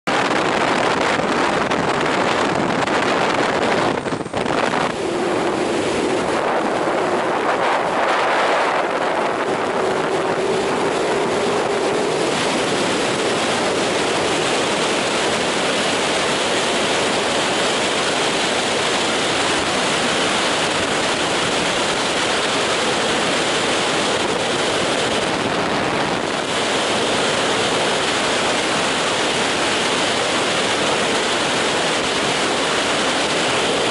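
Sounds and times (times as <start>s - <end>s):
freefall wind rushing: 0.1s - 33.9s.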